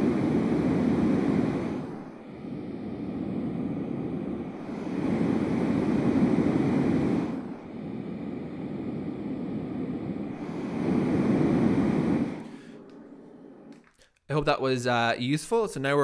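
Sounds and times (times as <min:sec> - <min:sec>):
white noise machine hiss: 0:00.0 - 0:16.0.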